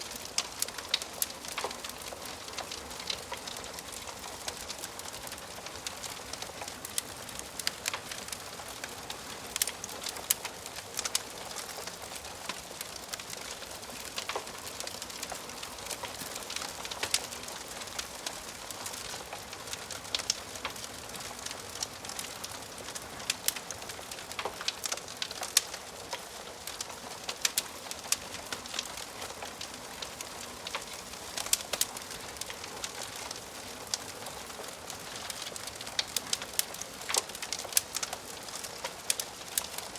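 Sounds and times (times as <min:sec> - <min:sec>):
wood fire crackling: 0:00.0 - 0:39.9
fire pops and snaps: 0:00.1 - 0:39.9.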